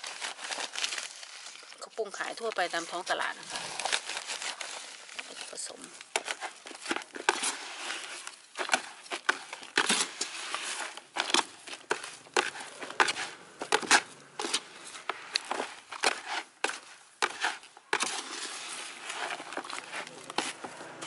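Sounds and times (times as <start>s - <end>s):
trowel scraping through soil: 0.0s - 21.0s.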